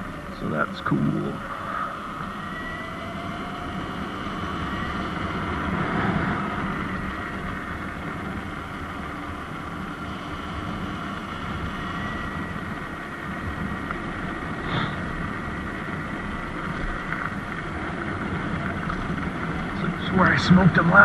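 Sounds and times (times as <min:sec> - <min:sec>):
electric motor whine: 0:00.0 - 0:18.2
wind: 0:00.0 - 0:21.0.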